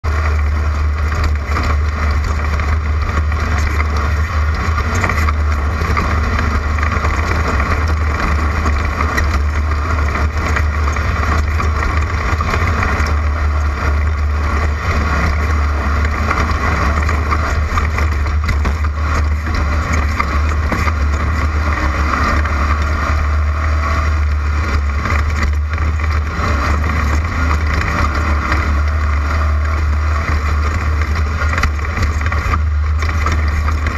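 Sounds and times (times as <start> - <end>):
race car engine droning: 0.0 - 33.9
road and wind noise: 0.0 - 33.9.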